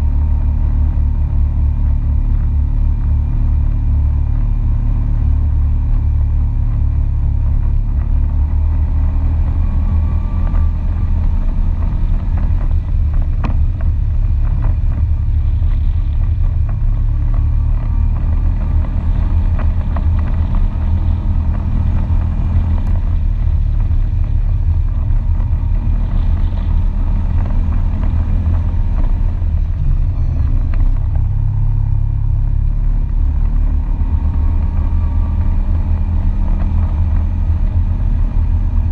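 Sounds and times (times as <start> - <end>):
atv engine rumbling: 0.0 - 38.9.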